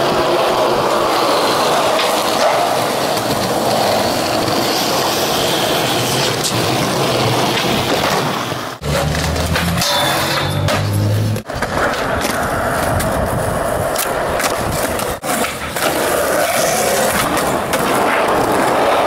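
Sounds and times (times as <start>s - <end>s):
skateboard wheels rolling on concrete: 0.0s - 19.0s.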